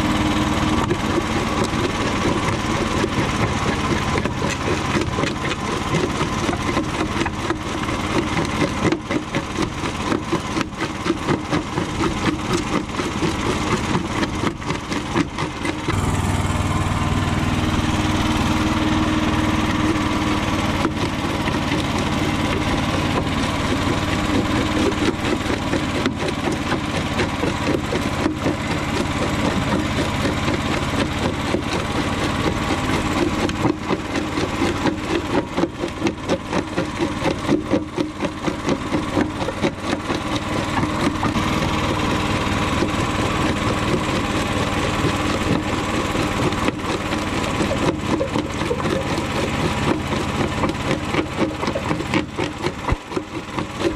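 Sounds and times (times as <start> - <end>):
engine drone: 0.0 - 53.9.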